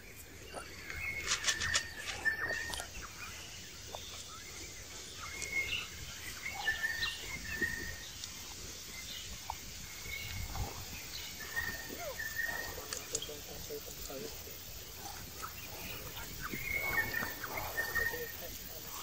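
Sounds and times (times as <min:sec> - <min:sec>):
steady woodland background: 0:00.0 - 0:19.0.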